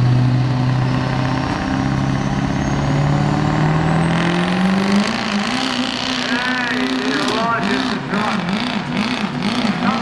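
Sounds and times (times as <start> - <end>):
diesel truck engine revving: 0.0 - 10.0.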